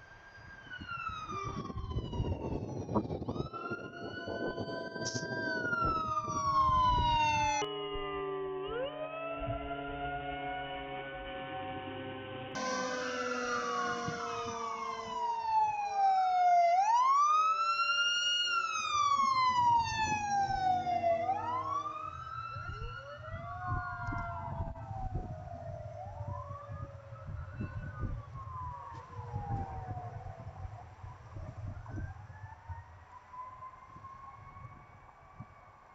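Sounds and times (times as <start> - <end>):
fire truck siren wailing: 0.0 - 35.9.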